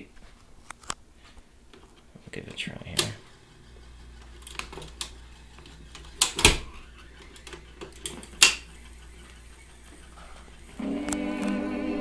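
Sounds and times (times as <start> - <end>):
steady low hum: 0.0 - 12.0
record changer clicks and clunks: 1.7 - 11.6.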